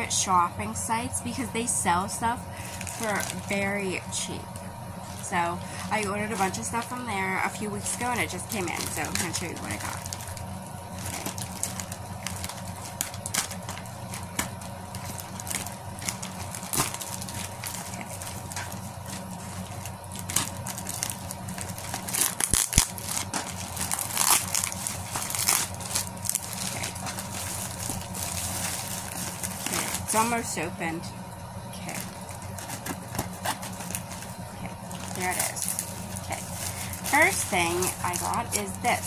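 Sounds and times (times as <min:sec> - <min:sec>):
plastic bag crinkling: 0:02.6 - 0:03.6, 0:05.0 - 0:30.5, 0:31.9 - 0:39.0.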